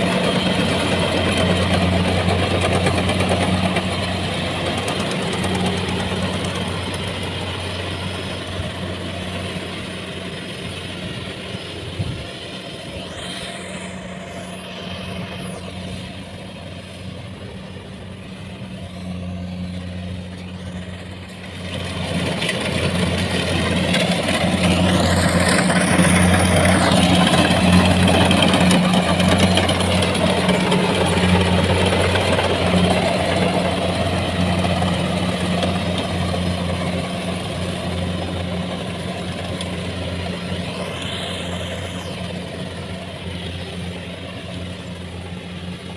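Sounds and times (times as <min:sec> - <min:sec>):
combine harvester engine humming: 0:00.0 - 0:45.9.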